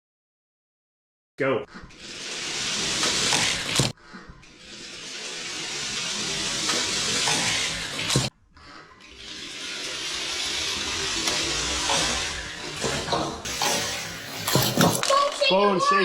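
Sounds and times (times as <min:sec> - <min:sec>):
toy trucks rolling on plastic track: 0:01.8 - 0:15.6.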